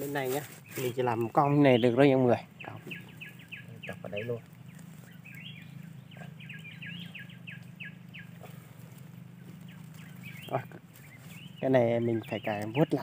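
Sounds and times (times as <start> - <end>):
small forest birds chirping: 0.0 - 13.0
steady low hum: 0.0 - 13.0.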